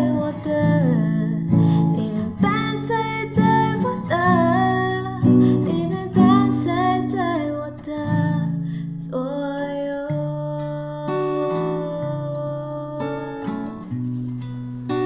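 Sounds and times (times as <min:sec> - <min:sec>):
person singing: 0:00.0 - 0:13.9
strummed acoustic guitar: 0:00.0 - 0:15.0.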